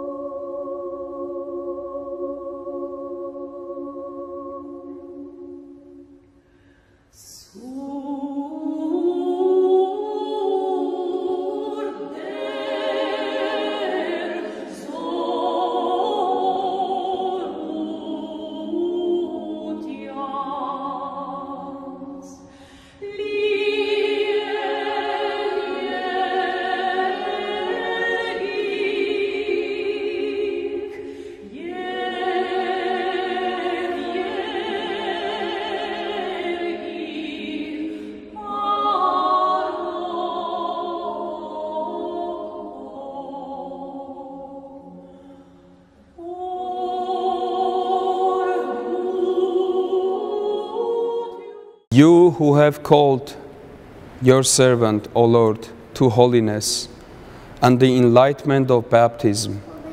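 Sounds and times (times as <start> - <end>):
choir singing a slow hymn: 0.0 - 59.9.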